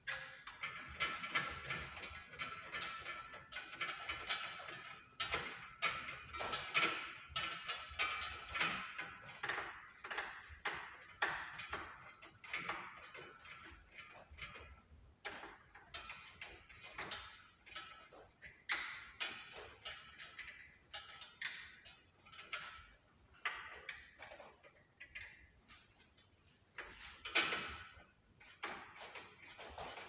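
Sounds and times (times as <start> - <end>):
metal clatter: 0.0 - 30.0.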